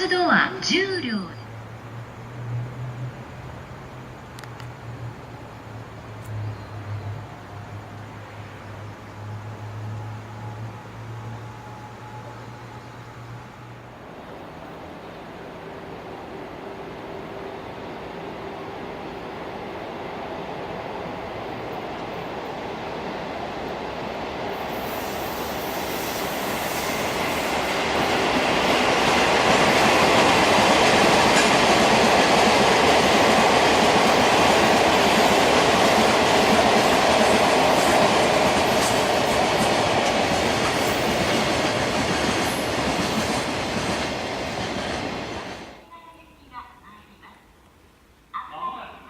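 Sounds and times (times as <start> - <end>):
train passing at speed: 0.0 - 49.0.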